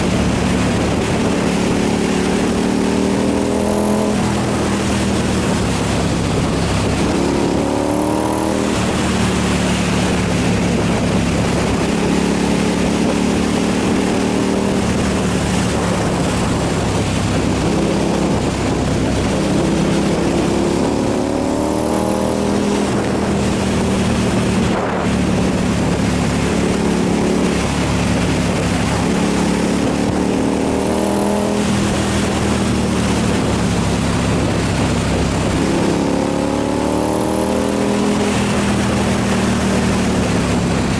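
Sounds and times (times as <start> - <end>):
motorcycle engine revving: 0.0 - 40.9
wind and road noise: 0.0 - 40.9.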